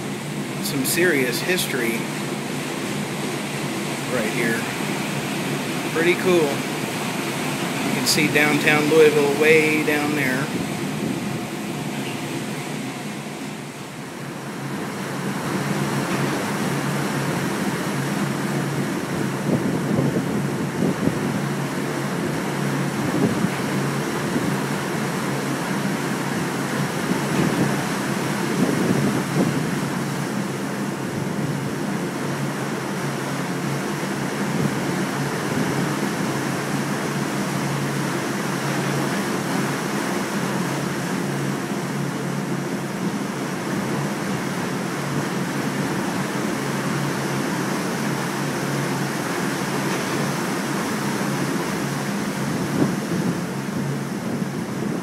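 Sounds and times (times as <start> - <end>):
river water rushing: 0.0 - 55.0
wind: 0.0 - 55.0.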